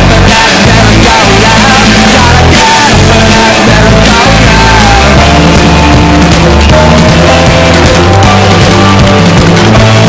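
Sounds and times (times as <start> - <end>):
heavy bass line: 0.0 - 10.0
loud music with singing: 0.0 - 10.0.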